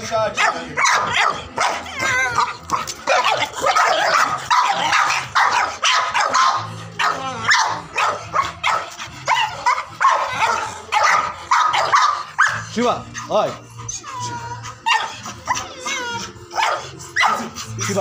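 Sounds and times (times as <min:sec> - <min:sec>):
dogs barking: 0:00.0 - 0:13.9, 0:14.6 - 0:18.0.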